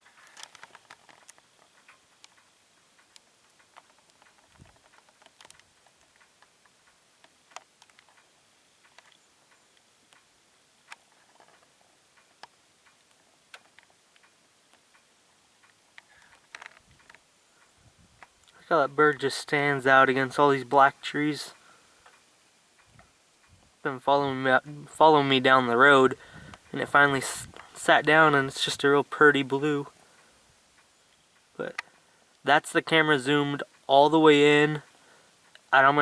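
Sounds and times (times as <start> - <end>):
faint clicks and ticks: 0.0 - 36.0.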